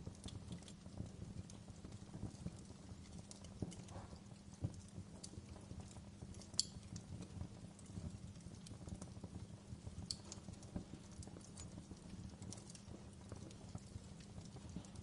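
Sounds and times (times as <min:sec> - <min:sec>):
sharp snaps of burning wood: 0:00.0 - 0:15.0
wood fire crackling: 0:00.0 - 0:15.0.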